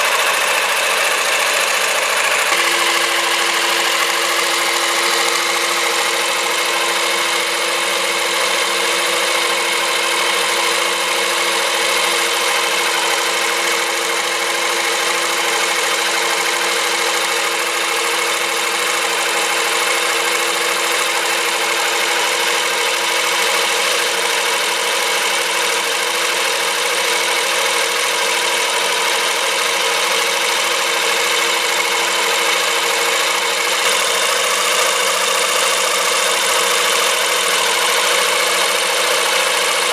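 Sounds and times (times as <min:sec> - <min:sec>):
electric motor whine and buzz: 0:00.0 - 0:39.9.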